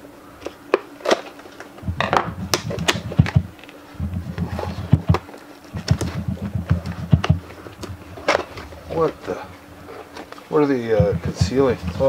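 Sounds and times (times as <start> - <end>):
low rumble of handling noise: 1.7 - 12.0.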